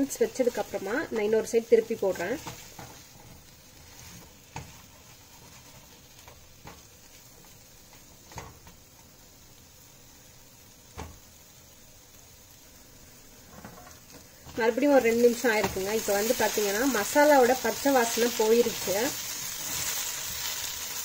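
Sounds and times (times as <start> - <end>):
potatoes sizzling in a pan: 0.0 - 21.0.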